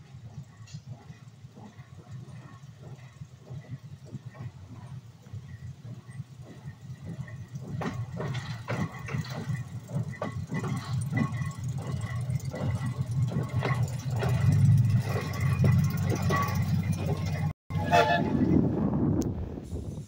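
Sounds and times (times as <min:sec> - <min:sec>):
clanks and knocks on track: 0:00.0 - 0:17.5
locomotive engine rumbling: 0:00.0 - 0:20.0.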